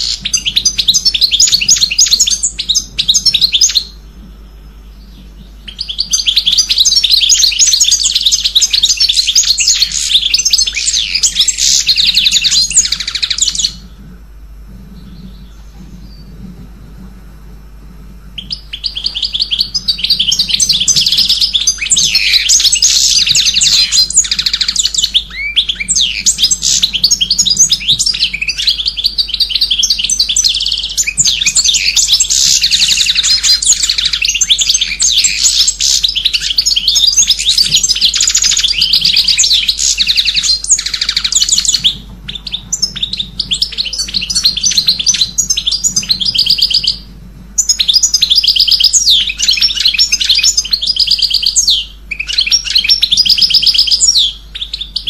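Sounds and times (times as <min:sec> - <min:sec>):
cage birds chirping and trilling: 0:00.0 - 0:55.0.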